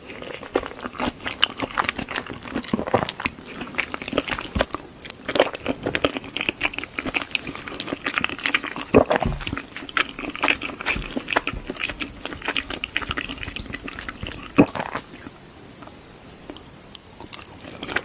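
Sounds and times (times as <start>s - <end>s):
wet chewing and slurping: 0.0s - 15.4s, 16.5s - 18.0s.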